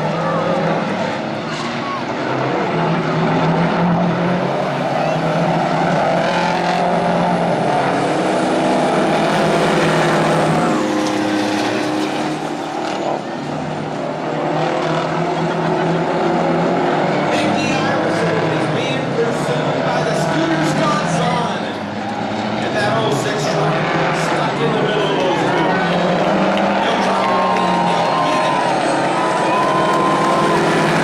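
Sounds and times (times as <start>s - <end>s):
truck diesel engines racing: 0.0s - 31.0s.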